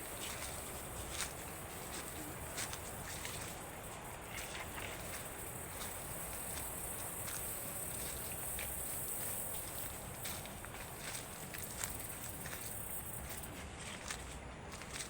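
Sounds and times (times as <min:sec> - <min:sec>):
high insect drone: 0:00.0 - 0:13.6.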